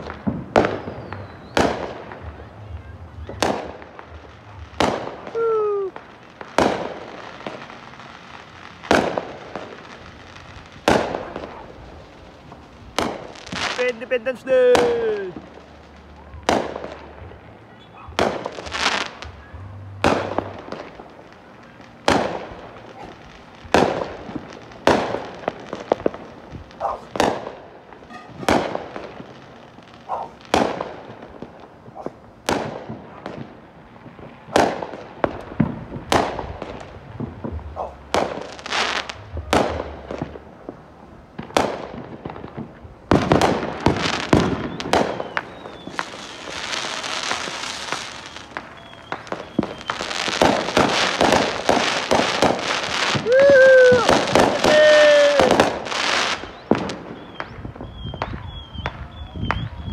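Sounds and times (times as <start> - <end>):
fireworks bangs: 0.0 - 59.9
fireworks crackling hiss: 0.0 - 59.9.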